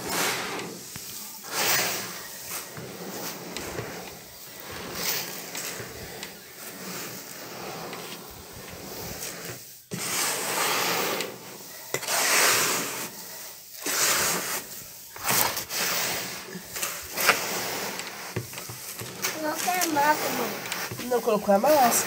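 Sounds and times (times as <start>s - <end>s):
hands stirring dry grain: 0.0s - 22.0s.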